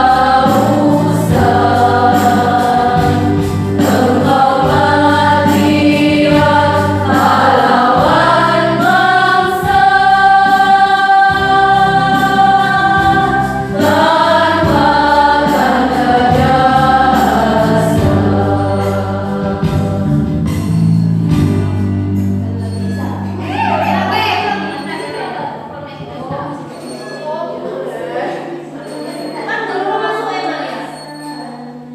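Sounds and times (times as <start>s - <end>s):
choir singing: 0.0s - 20.9s, 23.2s - 25.8s, 26.5s - 31.9s
steady low backing: 0.0s - 31.9s.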